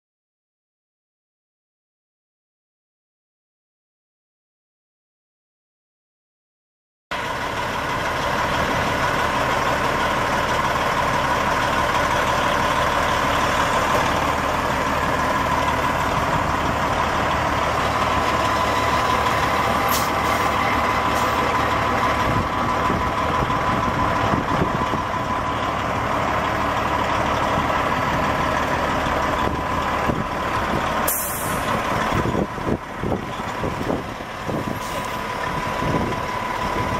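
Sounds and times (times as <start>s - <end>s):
diesel truck engine idling: 7.1s - 36.9s.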